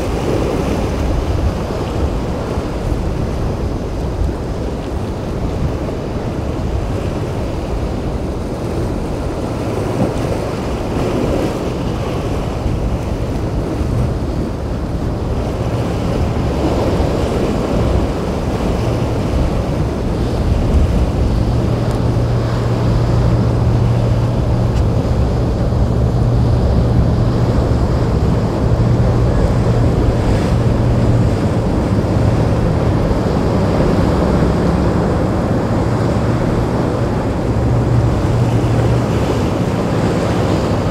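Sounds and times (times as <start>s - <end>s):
boat engine drone: 0.0s - 40.9s
rough surf: 0.0s - 40.9s
wind on microphone: 0.0s - 40.9s.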